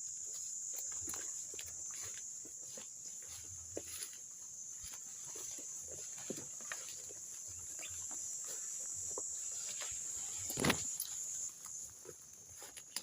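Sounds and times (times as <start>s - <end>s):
footsteps on twigs: 0.0s - 13.0s
high-pitched insect drone: 0.0s - 13.0s.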